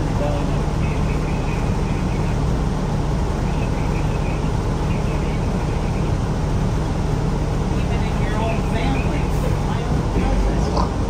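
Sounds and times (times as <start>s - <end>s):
bus engine droning: 0.0s - 11.0s
road noise: 0.0s - 11.0s.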